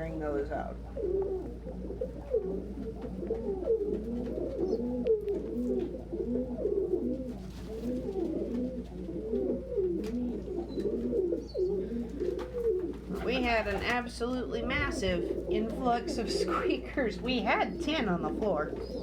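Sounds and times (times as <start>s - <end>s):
low steady hum: 0.0s - 19.0s
pigeons cooing: 0.0s - 19.0s.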